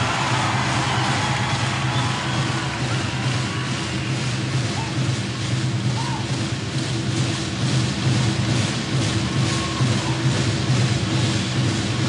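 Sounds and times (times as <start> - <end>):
rapid rolling drumming: 0.0 - 12.0.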